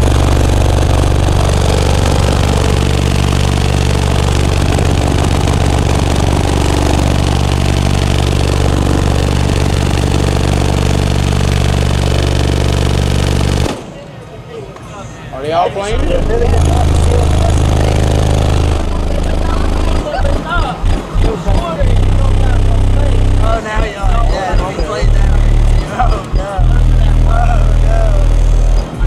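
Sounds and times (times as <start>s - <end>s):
subwoofers playing deep bass note: 0.0s - 13.7s, 15.9s - 29.0s.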